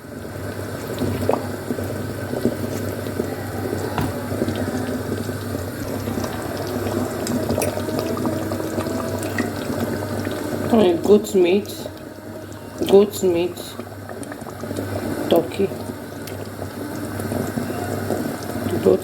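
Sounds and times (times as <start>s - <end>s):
water running from a tap: 0.0s - 19.0s.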